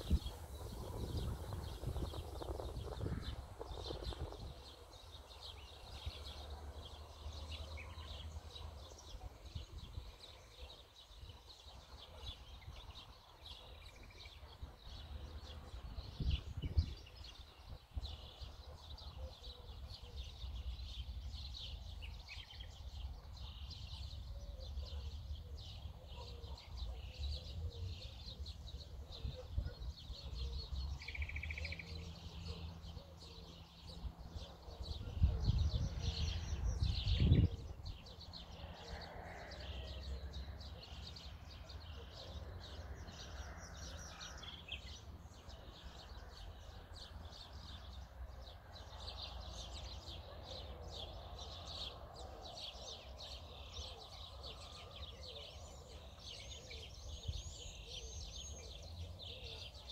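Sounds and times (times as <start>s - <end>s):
small birds chirping chorus: 0.0s - 59.9s.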